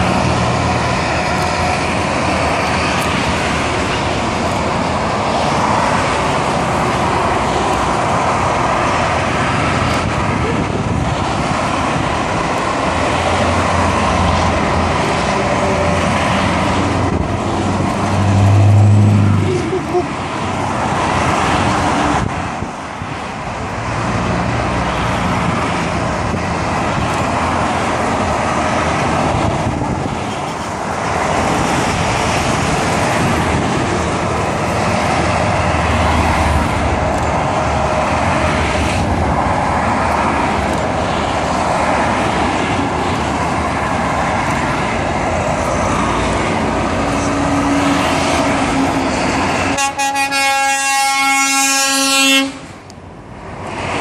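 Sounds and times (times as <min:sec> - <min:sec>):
lorry engines passing: 0:00.0 - 0:54.0
traffic tyre noise: 0:00.0 - 0:54.0.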